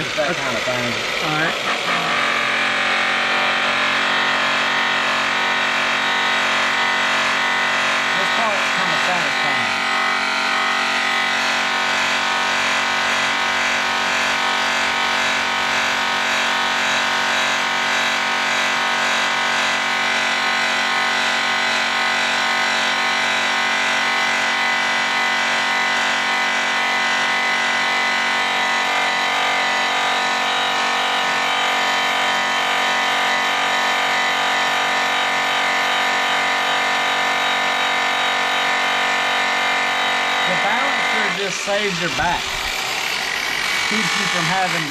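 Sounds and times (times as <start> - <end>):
polisher motor whine: 0.0 - 44.9.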